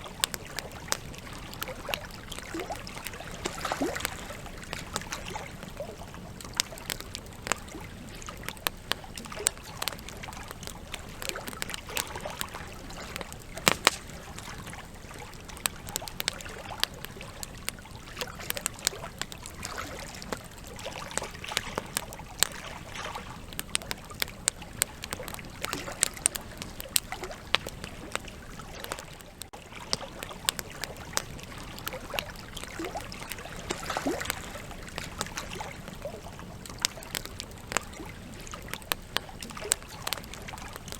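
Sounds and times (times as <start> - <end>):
campfire crackling and popping: 0.0 - 40.9
low hiss of flames: 0.0 - 40.9.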